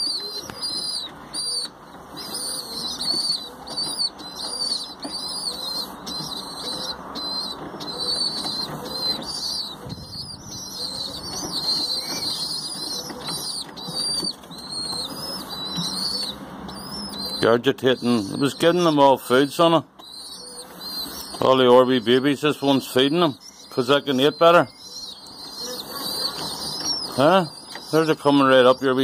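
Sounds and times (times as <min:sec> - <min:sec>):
baby birds chirping: 0:00.0 - 0:29.0.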